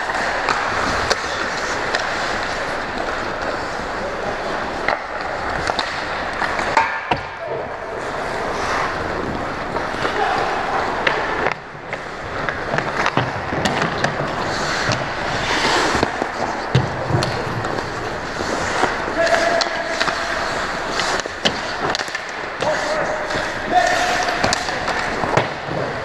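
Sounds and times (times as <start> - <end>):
skate blades scraping ice: 0.0 - 7.1, 7.7 - 26.0
hockey sticks and puck clacking: 0.0 - 26.0.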